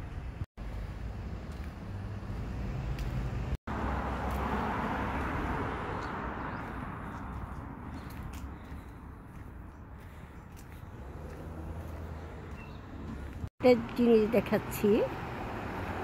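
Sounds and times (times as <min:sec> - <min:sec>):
car passing: 0:00.6 - 0:16.0.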